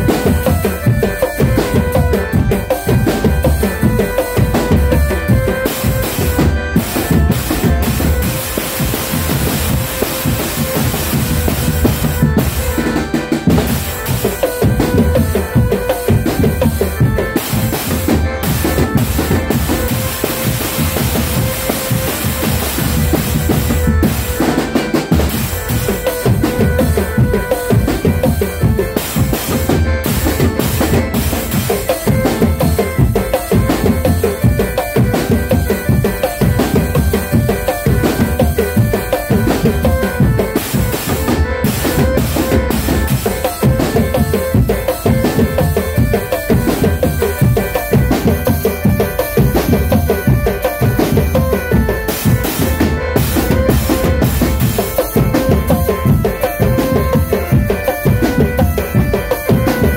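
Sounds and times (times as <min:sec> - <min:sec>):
bass drums: 0:00.0 - 0:59.9
snare drums: 0:00.0 - 0:59.9.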